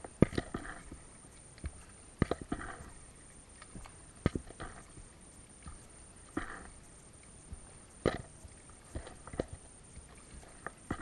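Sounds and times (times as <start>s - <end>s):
paddle splashing water: 0.0s - 11.0s.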